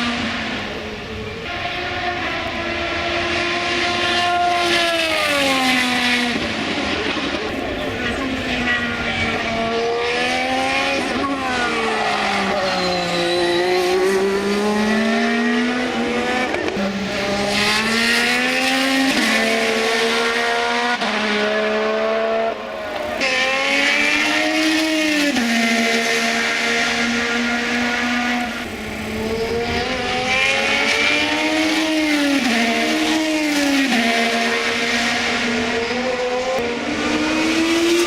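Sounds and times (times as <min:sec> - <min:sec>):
racing car engine high revs: 0:00.0 - 0:38.0.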